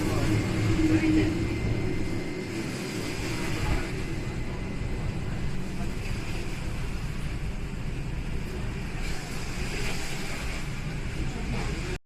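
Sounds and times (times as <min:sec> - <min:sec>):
streetcar interior rumble: 0:00.0 - 0:12.0.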